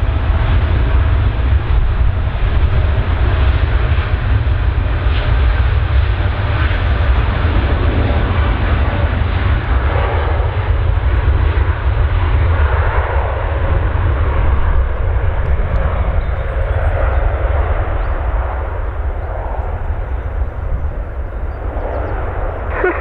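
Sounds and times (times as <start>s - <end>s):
jet engines roaring at takeoff: 0.0s - 23.0s.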